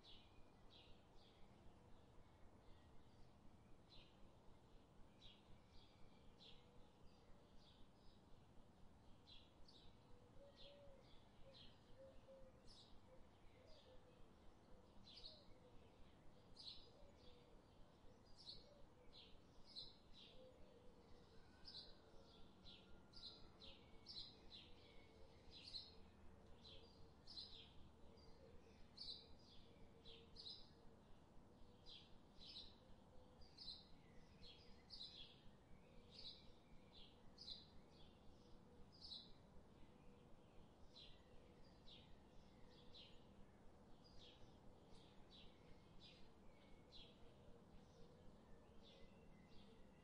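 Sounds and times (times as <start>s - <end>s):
bird chirping: 9.0s - 50.0s.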